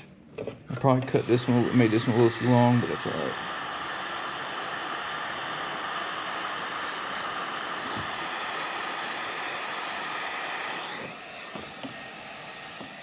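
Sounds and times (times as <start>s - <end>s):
heat gun hissing: 0.8s - 13.0s.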